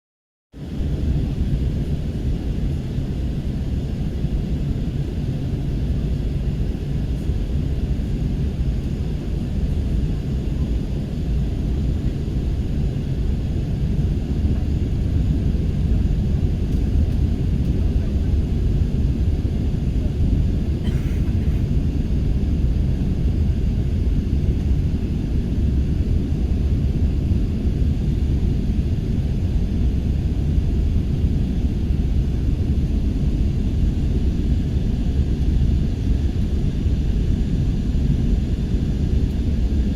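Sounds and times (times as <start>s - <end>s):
airliner engines rumbling: 0.6s - 39.9s.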